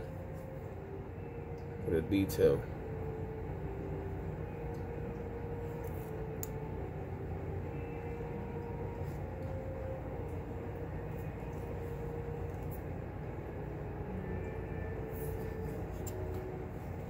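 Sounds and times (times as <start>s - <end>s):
faint steady tone: 0.0s - 17.0s
low room hum: 0.0s - 17.0s.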